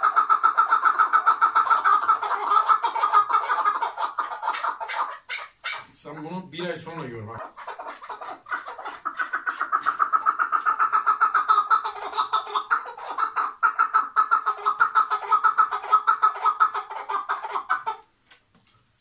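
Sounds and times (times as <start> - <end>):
partridge chuck calls: 0.0 - 6.5, 7.3 - 18.1.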